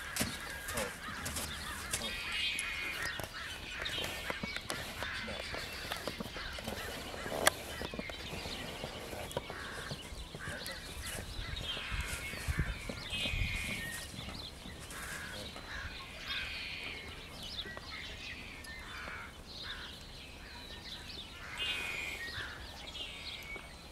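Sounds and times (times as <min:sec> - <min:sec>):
wild birds calling: 0:00.0 - 0:23.9.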